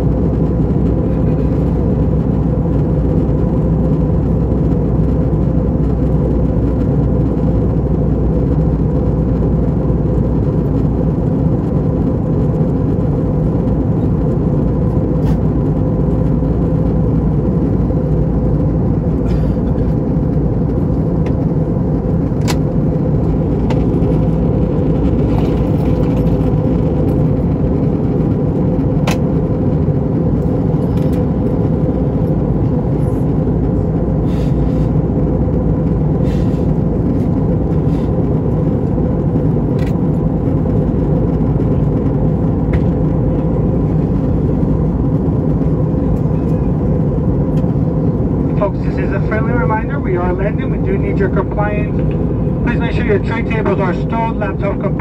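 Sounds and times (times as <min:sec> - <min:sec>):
airliner cabin engine roar: 0:00.0 - 0:55.0.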